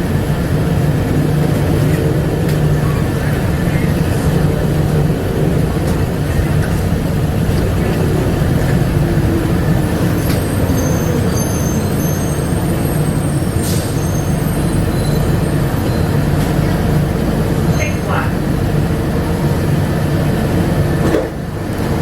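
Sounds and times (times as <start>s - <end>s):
rubber-tyred train running rumble: 0.0s - 22.0s.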